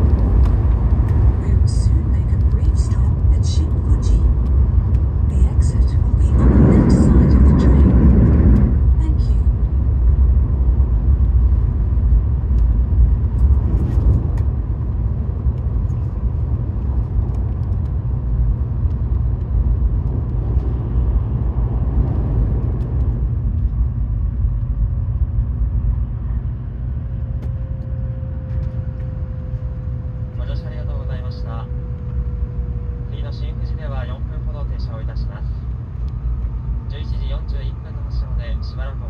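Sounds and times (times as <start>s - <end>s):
train wheels rumbling: 0.0s - 38.8s.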